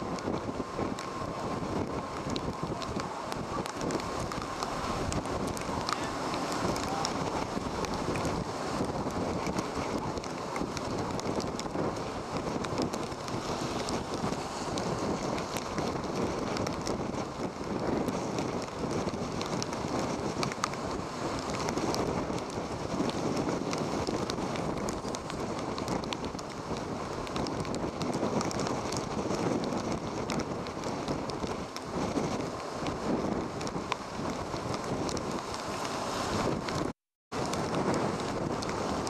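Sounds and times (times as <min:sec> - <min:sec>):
heavy surf: 0:00.0 - 0:39.0
hurricane wind: 0:00.0 - 0:39.0
wind buffeting the microphone: 0:00.0 - 0:39.0.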